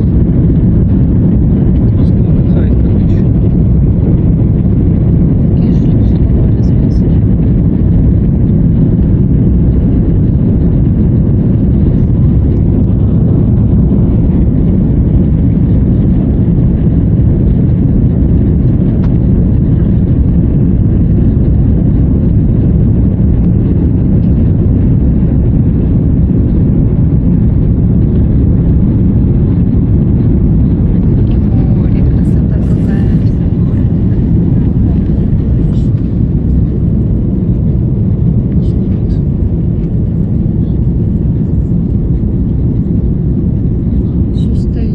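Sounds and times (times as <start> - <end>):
jet engine low rumble: 0.0 - 44.9.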